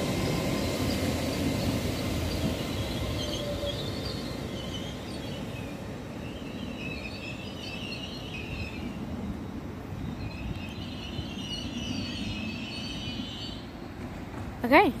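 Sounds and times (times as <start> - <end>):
train rumbling slowly: 0.0 - 15.0.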